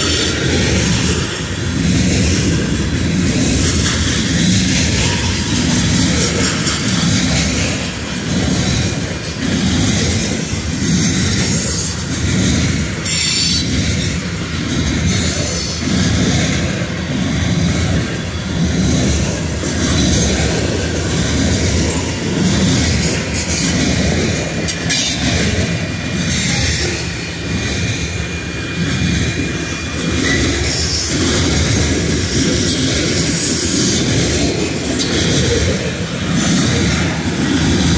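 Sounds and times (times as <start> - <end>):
freight train wheels clattering: 0.0 - 37.9.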